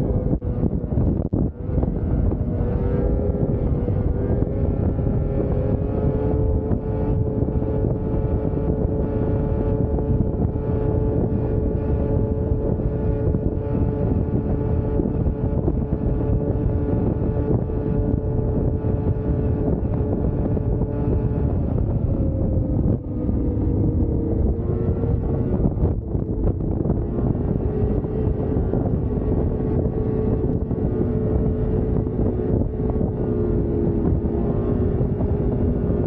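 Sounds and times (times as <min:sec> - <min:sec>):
snowmobile engine at high revs: 0:00.0 - 0:36.0
wind buffeting microphone: 0:00.0 - 0:36.0.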